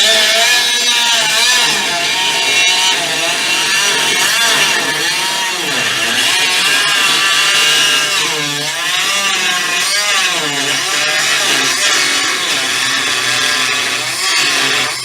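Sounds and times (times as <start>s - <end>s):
power tool whining on sheet metal: 0.0s - 15.0s.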